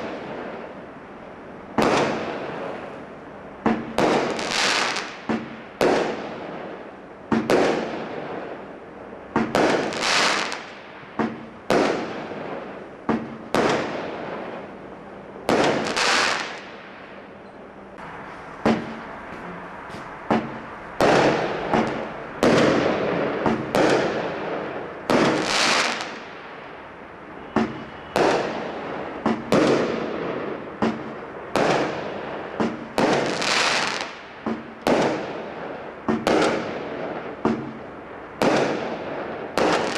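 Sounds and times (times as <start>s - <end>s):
fireworks bangs with hiss: 0.0s - 0.8s, 1.7s - 3.0s, 3.6s - 14.7s, 15.4s - 17.1s, 18.0s - 39.9s.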